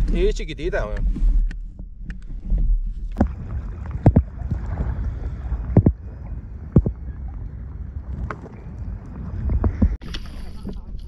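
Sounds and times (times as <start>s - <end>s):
water and wind rumbling: 0.0s - 11.0s.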